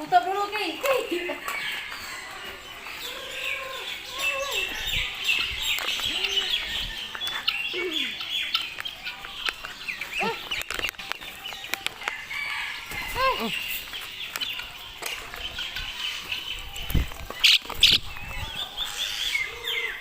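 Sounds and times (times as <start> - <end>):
birds chirping rapidly: 0.0 - 20.0.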